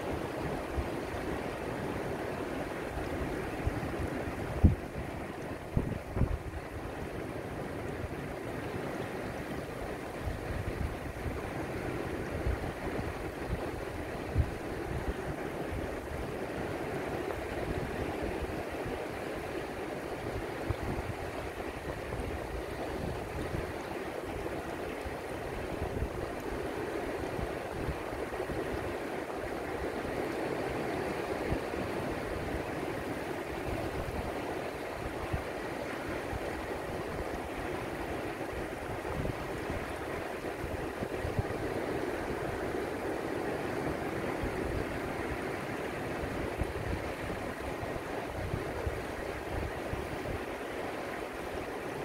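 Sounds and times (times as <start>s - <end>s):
surf washing over rocks: 0.0s - 52.0s.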